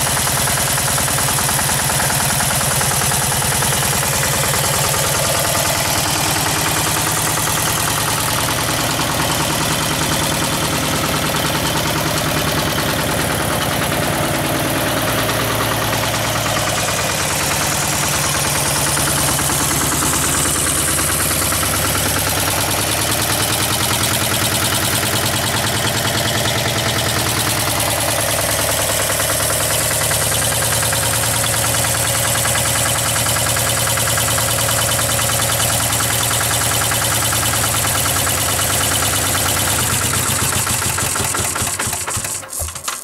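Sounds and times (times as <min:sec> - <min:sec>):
diesel engine running steadily: 0:00.0 - 0:43.0.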